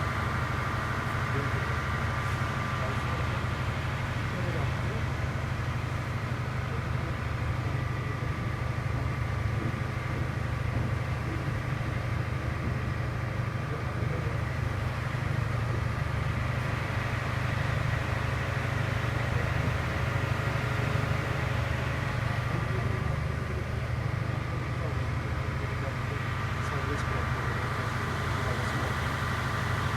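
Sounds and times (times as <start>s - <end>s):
ferry engine droning: 0.0s - 29.9s.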